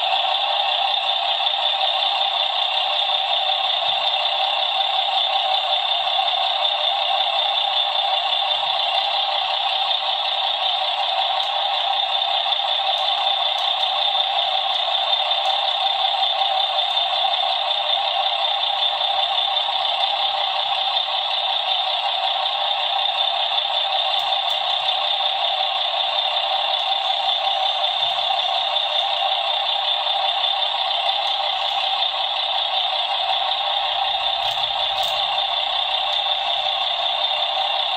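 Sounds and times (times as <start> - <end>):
tinny simulated truck sound: 0.0 - 37.9.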